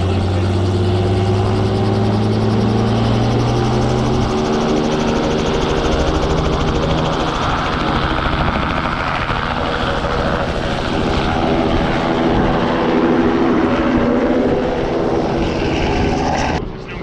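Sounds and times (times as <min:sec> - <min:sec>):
helicopter running: 0:00.0 - 0:17.0.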